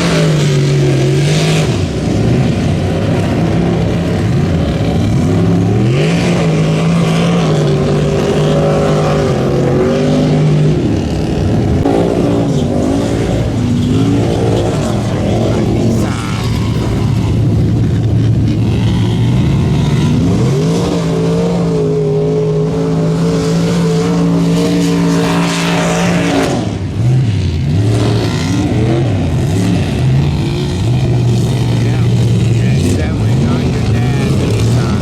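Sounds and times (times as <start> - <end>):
truck engine revving: 0.0 - 35.0.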